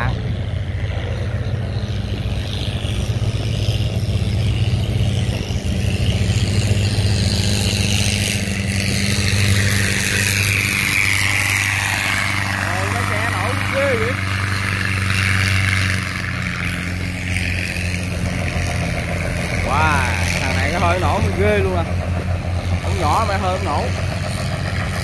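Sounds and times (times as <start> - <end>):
boat diesel engine running: 0.0 - 25.0
water rushing from bow wake: 0.0 - 25.0.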